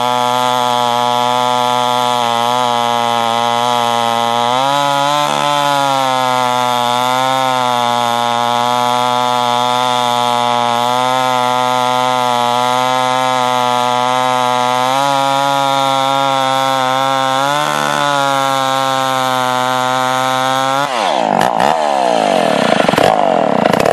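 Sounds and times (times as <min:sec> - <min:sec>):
chainsaw engine running: 0:00.0 - 0:23.9.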